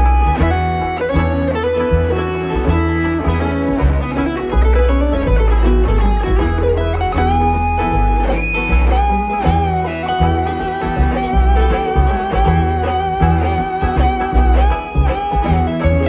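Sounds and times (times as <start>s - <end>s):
banjo picking: 0.0s - 16.0s
bluegrass band playing: 0.0s - 16.0s
sliding melody line: 0.0s - 16.0s
upright bass notes: 0.0s - 16.0s.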